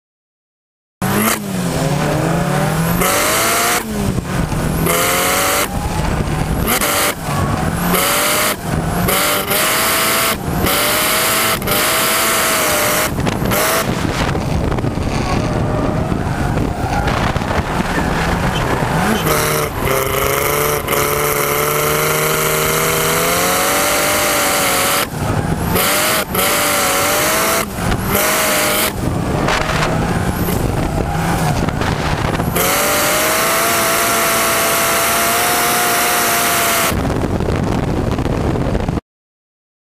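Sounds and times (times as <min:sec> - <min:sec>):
car engine revving hard: 0:01.0 - 0:37.7
tyres and wind noise: 0:01.0 - 0:39.0.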